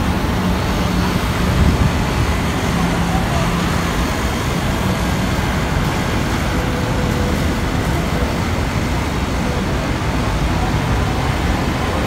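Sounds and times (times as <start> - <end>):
city street traffic: 0.0 - 12.0.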